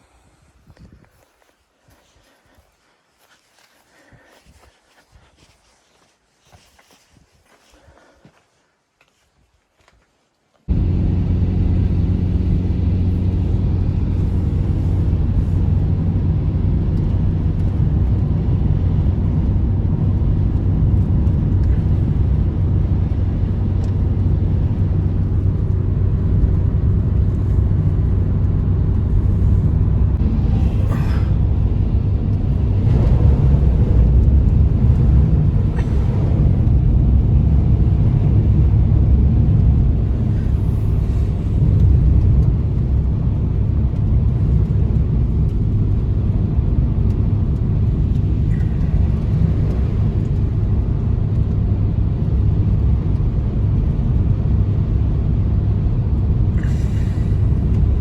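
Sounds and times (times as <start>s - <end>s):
loud low rumble: 10.7s - 58.0s.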